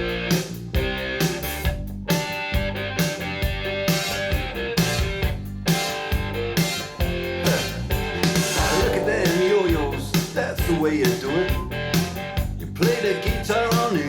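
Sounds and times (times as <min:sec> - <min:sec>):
rock music over loudspeakers: 0:00.0 - 0:14.0.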